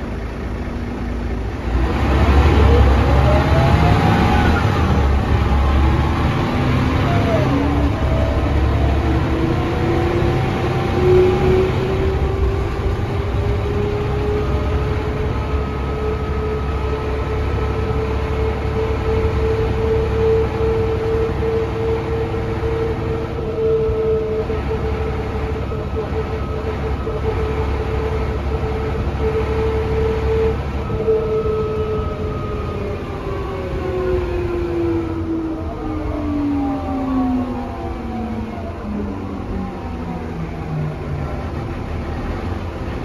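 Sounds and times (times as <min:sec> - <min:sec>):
bus gear whine: 0:00.0 - 0:43.0
engine and road rumble: 0:00.0 - 0:43.0.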